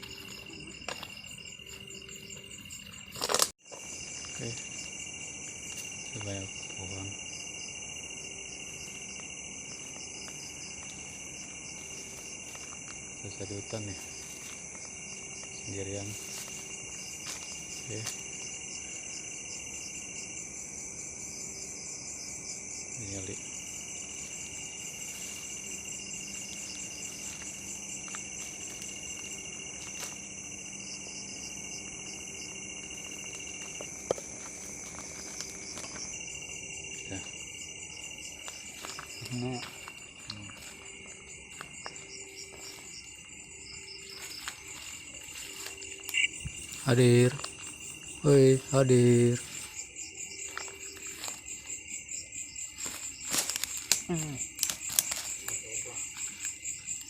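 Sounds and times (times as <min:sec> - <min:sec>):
crickets pulsing trill: 0:00.0 - 0:57.0
high continuous insect buzz: 0:00.0 - 0:57.0.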